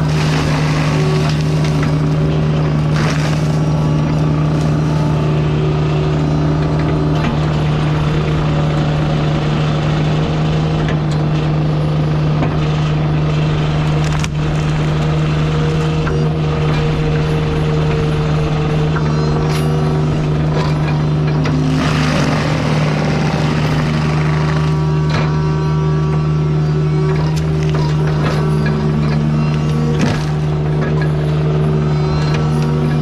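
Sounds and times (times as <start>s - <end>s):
diesel engine running steadily: 0.0s - 33.0s.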